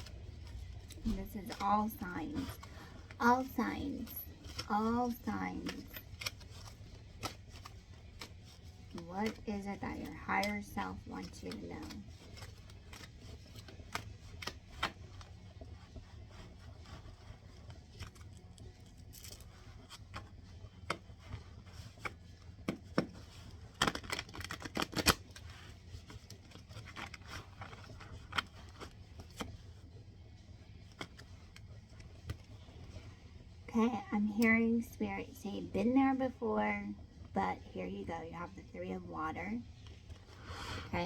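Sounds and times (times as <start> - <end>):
cards being shuffled: 0.0 - 36.2
steady low hum: 0.0 - 41.0.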